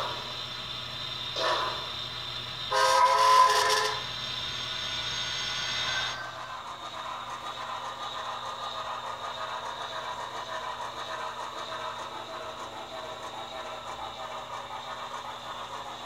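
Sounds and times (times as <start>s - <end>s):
model train motor whirring: 0.0s - 16.0s.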